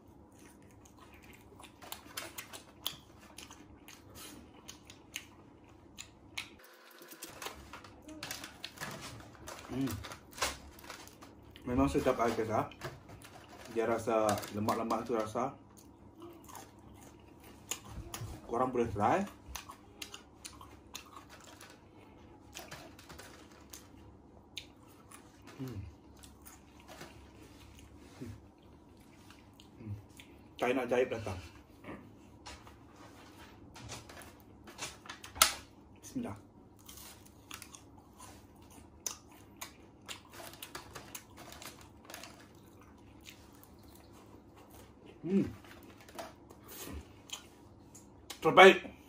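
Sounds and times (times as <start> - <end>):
chewing food: 0.0 - 18.5, 19.2 - 30.7, 36.7 - 48.4.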